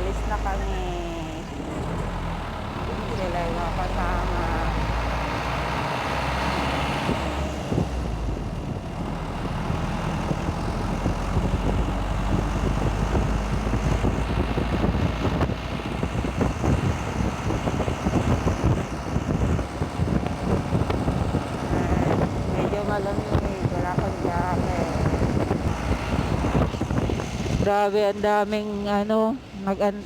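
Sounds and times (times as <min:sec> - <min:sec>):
rough rushing rumble: 0:00.0 - 0:30.0
truck engine running: 0:00.0 - 0:30.0.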